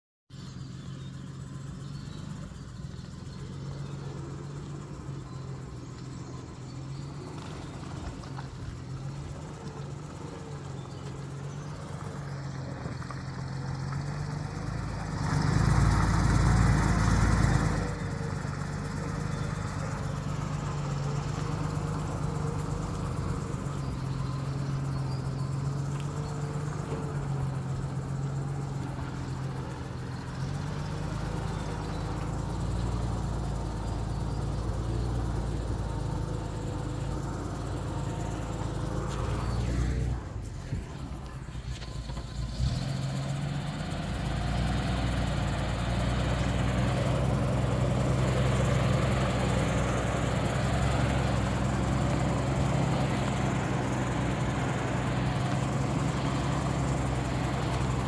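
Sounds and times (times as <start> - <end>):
truck engine running: 0.3 - 58.0.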